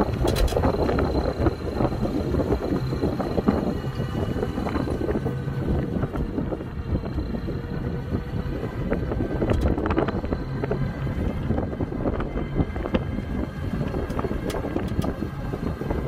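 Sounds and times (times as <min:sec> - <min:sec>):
tyres rumbling on road: 0:00.0 - 0:16.0
wind buffeting microphone: 0:00.0 - 0:16.0.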